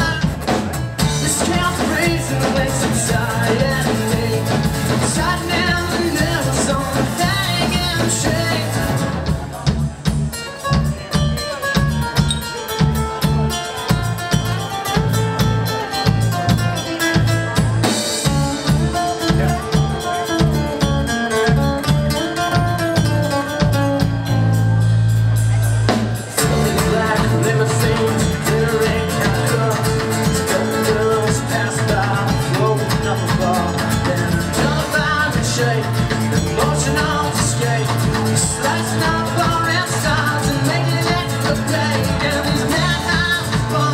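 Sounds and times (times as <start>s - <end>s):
live band playing a song: 0.0s - 43.9s.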